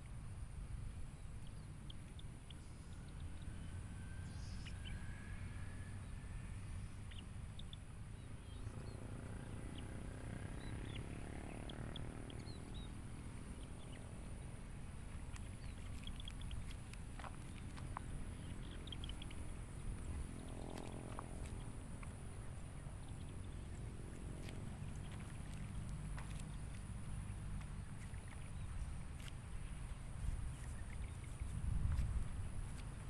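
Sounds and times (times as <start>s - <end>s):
low steady rumble: 0.0s - 33.0s
birds chirping: 1.1s - 33.0s.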